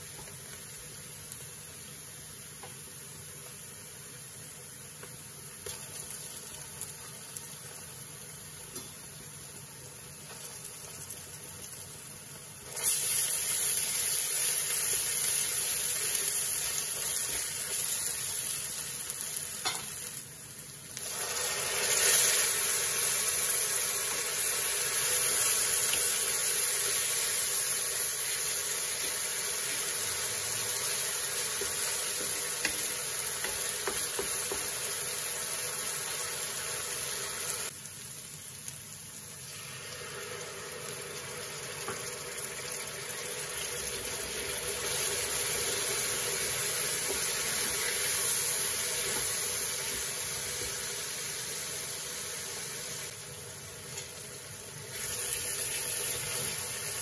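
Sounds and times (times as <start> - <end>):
onion sizzling in a pan: 0.0 - 57.0
tomato frying in a pan: 0.0 - 57.0.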